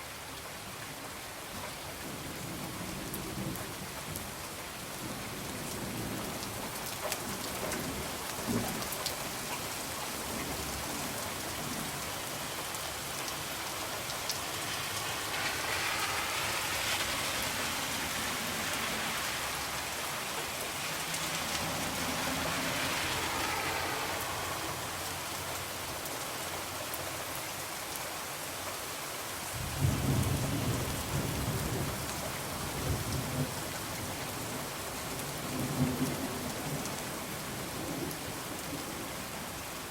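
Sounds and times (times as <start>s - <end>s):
rain against a window: 1.5s - 39.9s.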